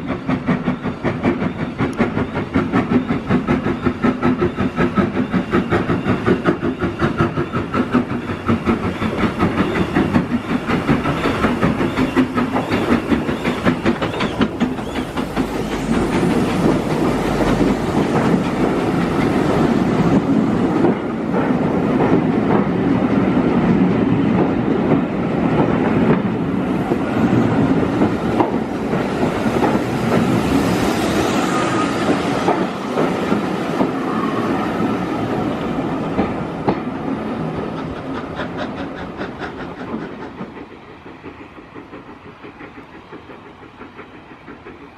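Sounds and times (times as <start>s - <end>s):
steam locomotive exhaust beats: 0.0s - 44.9s
train carriages rumbling past: 0.0s - 44.9s.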